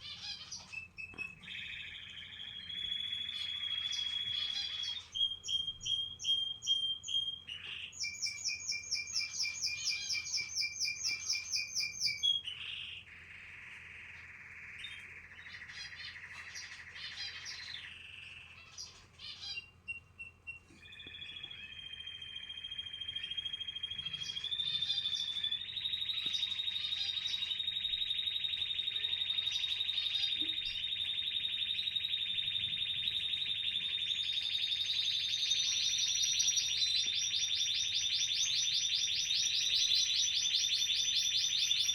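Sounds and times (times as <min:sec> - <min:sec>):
canaries chirping and singing: 0:00.0 - 0:13.0, 0:14.8 - 0:41.9.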